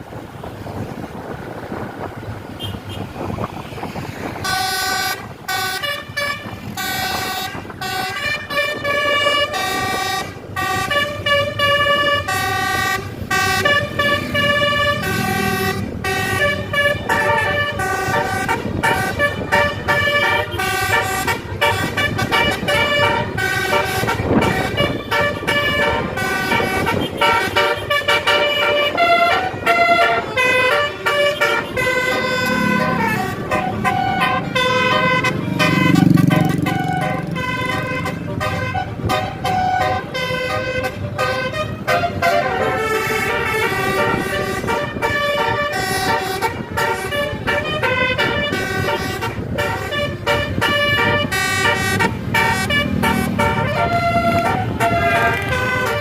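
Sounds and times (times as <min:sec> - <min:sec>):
multi-tone bus horn melody: 0:00.1 - 0:56.0.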